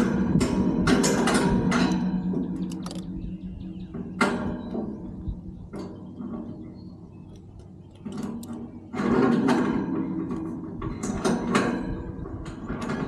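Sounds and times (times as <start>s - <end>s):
mechanical rattling and clanking: 0.0s - 13.0s.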